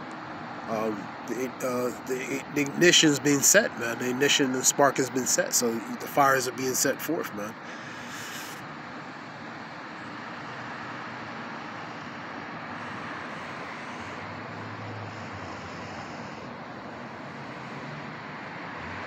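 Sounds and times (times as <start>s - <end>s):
outdoor rushing background noise: 0.0s - 19.0s.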